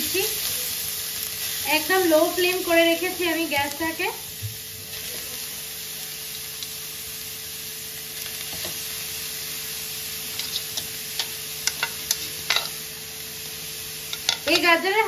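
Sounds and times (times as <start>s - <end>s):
carrots sizzling in oil: 0.0s - 15.0s.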